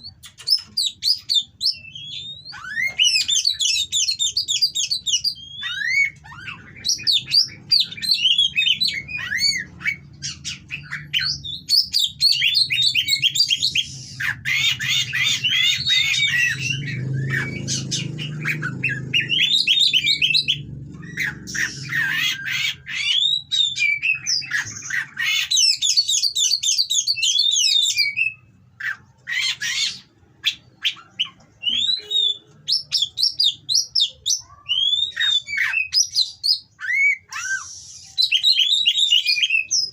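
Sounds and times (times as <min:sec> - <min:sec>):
songbird singing whistles and chatter: 0:00.0 - 0:39.9.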